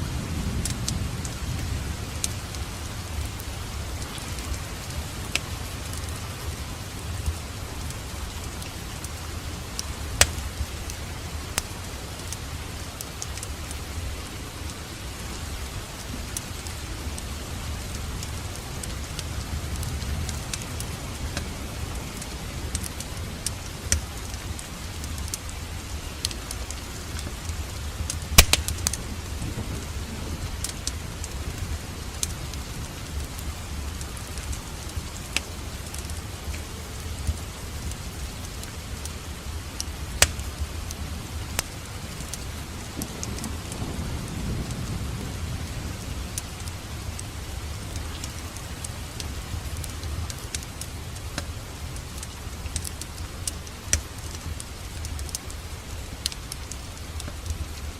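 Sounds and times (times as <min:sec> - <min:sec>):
wood fire crackling and popping: 0:00.6 - 0:06.2, 0:07.2 - 0:14.0, 0:15.8 - 0:43.8, 0:46.3 - 0:57.9.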